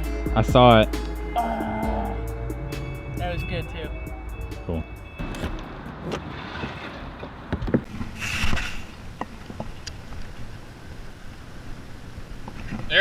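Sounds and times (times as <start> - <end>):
moving air and water: 2.3 - 12.9.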